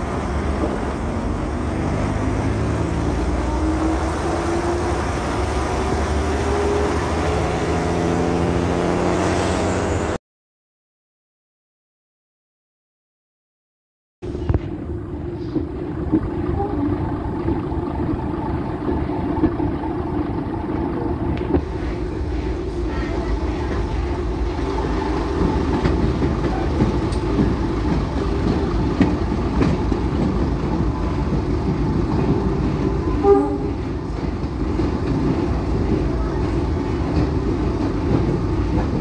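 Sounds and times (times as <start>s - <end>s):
rail clacks: 0.0s - 7.5s, 14.4s - 39.0s
train wheels rumbling in tunnel: 0.0s - 10.2s, 14.2s - 39.0s.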